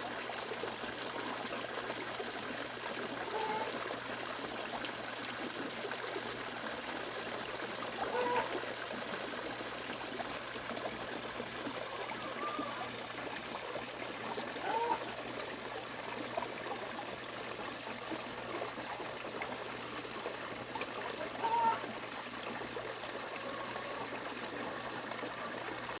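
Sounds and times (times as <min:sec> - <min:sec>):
stream trickling: 0:00.0 - 0:26.0.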